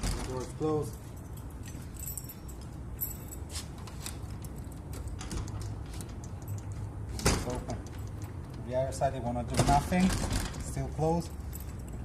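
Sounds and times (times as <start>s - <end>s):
keys jingling: 0.0s - 8.5s, 10.6s - 12.0s.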